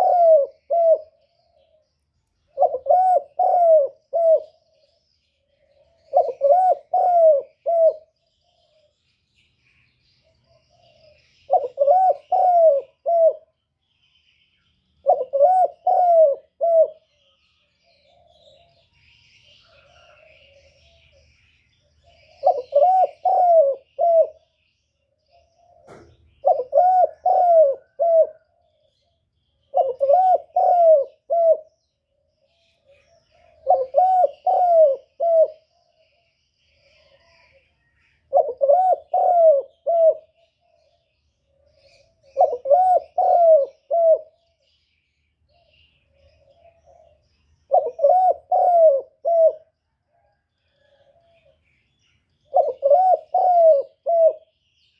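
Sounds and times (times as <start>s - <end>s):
dove cooing: 0.0s - 1.9s, 2.5s - 9.0s, 10.2s - 13.6s, 15.0s - 24.6s, 25.2s - 44.7s, 45.5s - 51.8s, 52.4s - 54.6s
small birds chirping: 0.0s - 54.9s.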